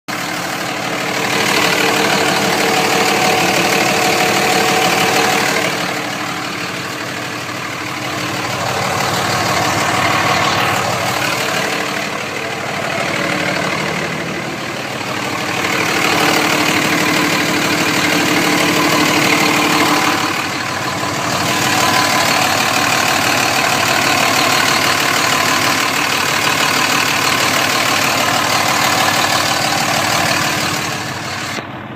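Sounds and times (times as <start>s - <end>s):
diesel engine idling: 0.1s - 31.9s.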